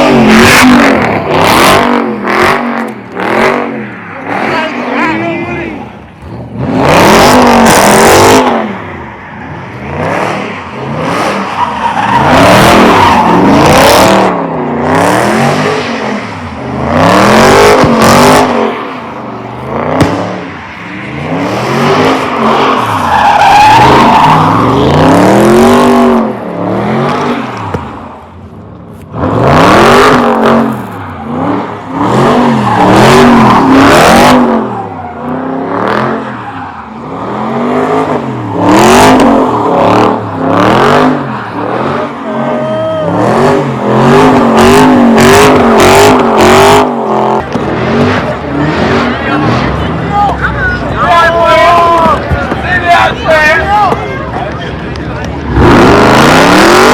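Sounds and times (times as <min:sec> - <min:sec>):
car engine revving hard: 0:00.0 - 0:05.7, 0:06.4 - 0:08.8, 0:09.8 - 0:28.0, 0:29.1 - 0:51.8, 0:54.8 - 0:56.9.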